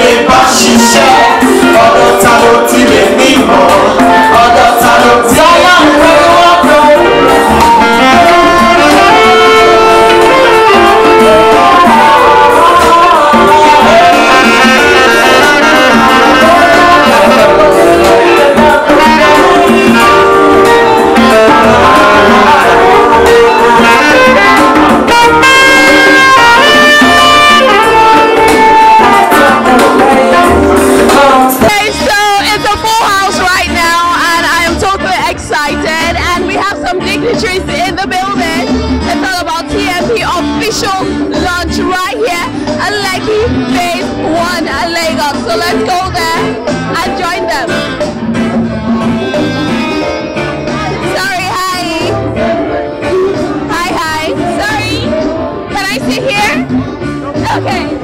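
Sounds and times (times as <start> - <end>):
keyboard accompaniment: 0.0 - 58.0
saxophone melody: 0.0 - 58.0.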